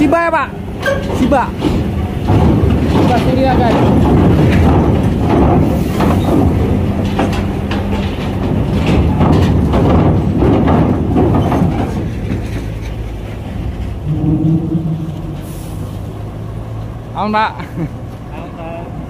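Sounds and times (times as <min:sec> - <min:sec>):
truck diesel engine running: 0:00.0 - 0:19.0
metallic clanks on steel ramp: 0:00.7 - 0:16.3.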